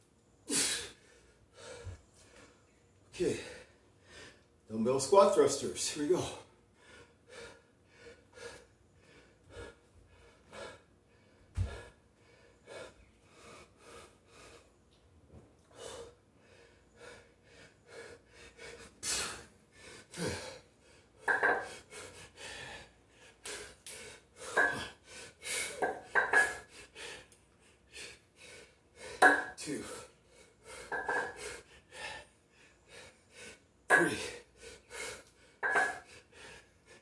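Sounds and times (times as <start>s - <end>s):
man breathing hard: 0.5s - 2.6s, 3.2s - 4.5s, 6.2s - 14.8s, 15.6s - 37.0s.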